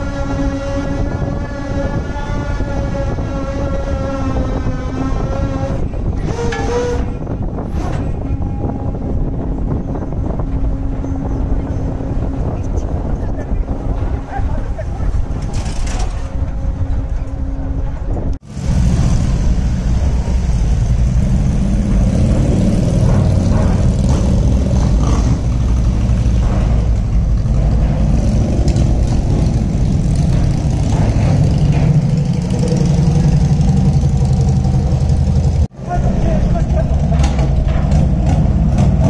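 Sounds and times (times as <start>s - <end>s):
engines idling low rumble: 7.2s - 39.0s.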